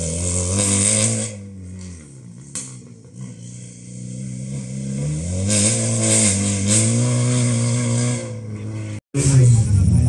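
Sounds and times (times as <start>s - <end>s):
rally car engine approaching: 0.0s - 10.0s.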